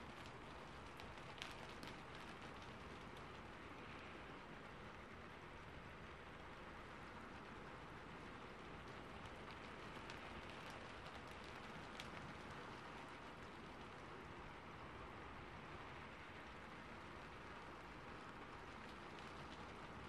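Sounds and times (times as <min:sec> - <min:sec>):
rain on a roof: 0:00.0 - 0:20.0.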